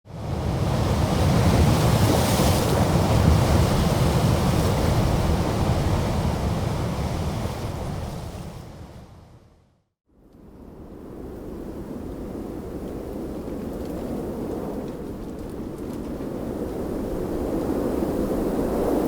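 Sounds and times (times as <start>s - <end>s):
strong gusting wind: 0.1s - 9.5s, 10.4s - 19.0s.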